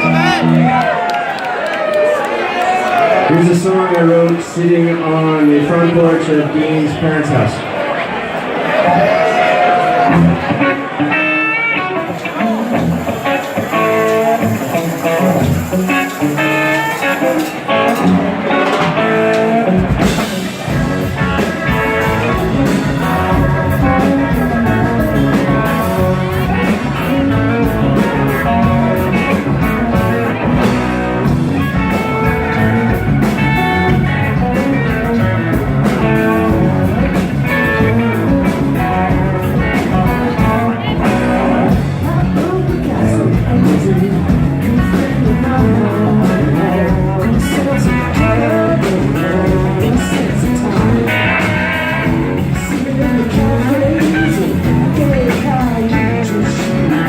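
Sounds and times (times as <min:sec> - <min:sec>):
electric guitar playing: 0:00.0 - 0:01.1, 0:08.9 - 0:57.0
bass guitar: 0:00.0 - 0:01.6, 0:08.7 - 0:57.0
drums: 0:00.0 - 0:57.0.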